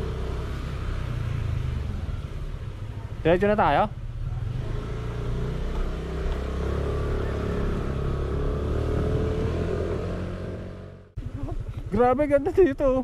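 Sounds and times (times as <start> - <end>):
motorcycle engine droning: 0.0 - 12.5.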